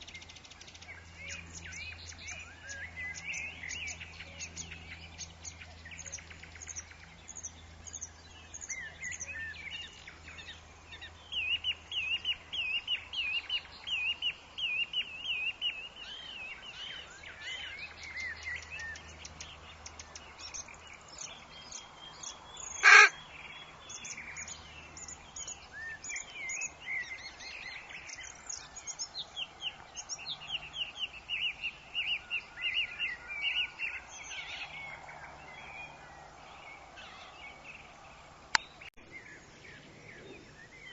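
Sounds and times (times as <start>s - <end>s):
forest birds singing: 0.0s - 40.9s.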